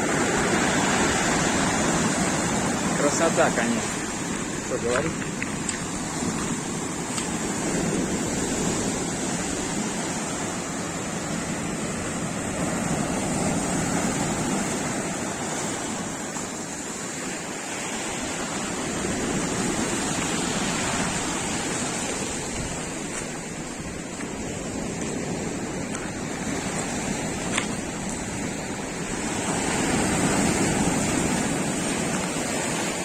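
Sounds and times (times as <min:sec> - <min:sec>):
surf washing onto shore: 0:00.0 - 0:33.0.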